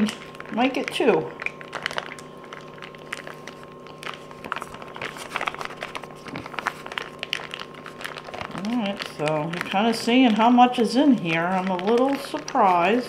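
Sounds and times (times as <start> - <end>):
faint steady hum: 0.0 - 13.0
plastic pouch crinkling: 0.0 - 13.0.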